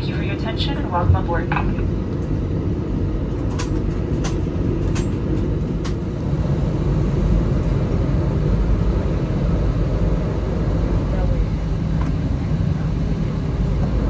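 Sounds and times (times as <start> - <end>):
airliner engines rumbling in cabin: 0.0 - 14.0.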